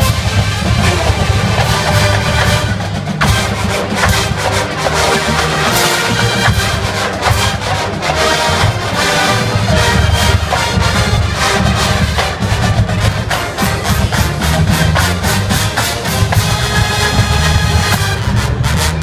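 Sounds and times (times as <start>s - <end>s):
steady drum hits: 0.0s - 18.3s
marching band horns: 0.0s - 19.0s.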